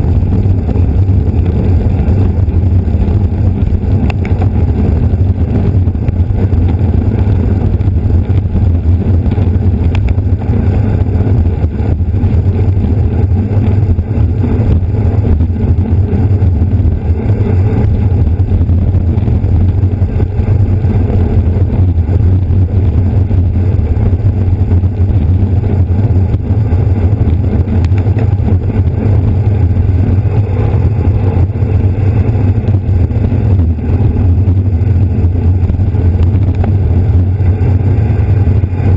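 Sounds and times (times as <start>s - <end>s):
bicycle tyres humming on road: 0.0s - 38.9s
wind rumble on microphone: 0.0s - 38.9s.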